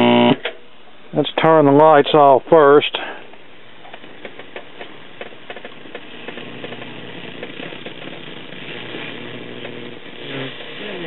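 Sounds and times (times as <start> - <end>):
radio static hiss: 0.0 - 0.4, 1.1 - 11.0
steady low hum: 0.0 - 11.0.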